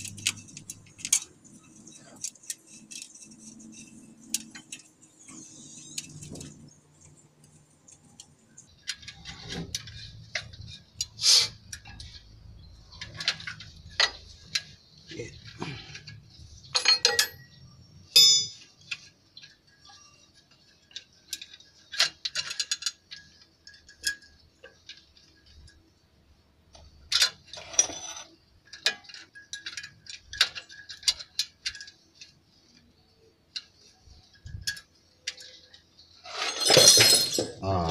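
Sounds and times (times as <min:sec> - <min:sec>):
spanner and metal parts clinking: 0:00.0 - 0:26.0, 0:26.7 - 0:37.9.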